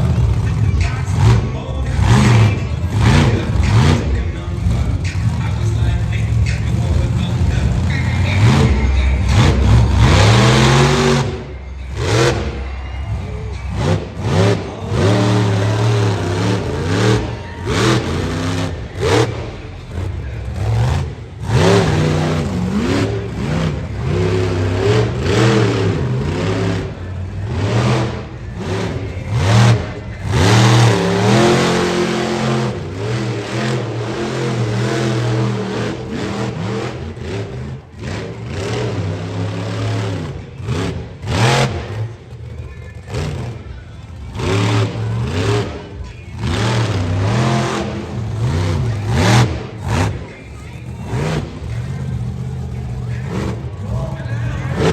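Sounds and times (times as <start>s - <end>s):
monster truck engine revving: 0.0s - 54.9s.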